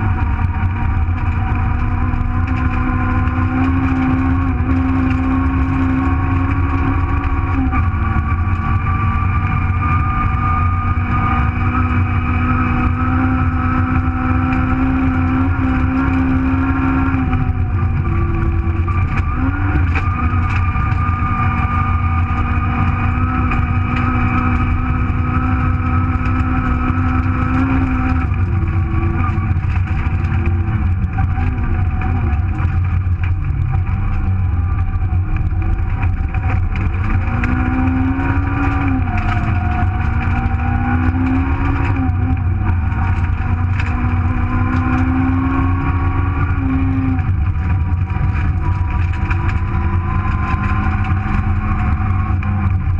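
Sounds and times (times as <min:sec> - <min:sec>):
car engine at high revs: 0:00.0 - 0:52.9
road and tyre rumble: 0:00.0 - 0:52.9.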